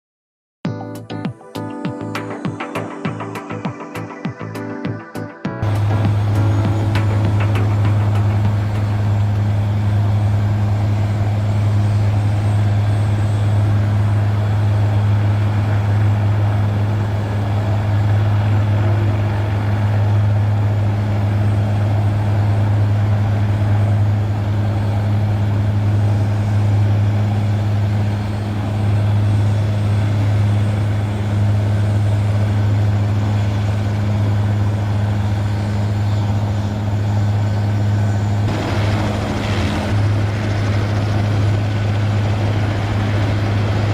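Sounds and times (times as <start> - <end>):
helicopter engine and rotors: 2.0 - 43.9.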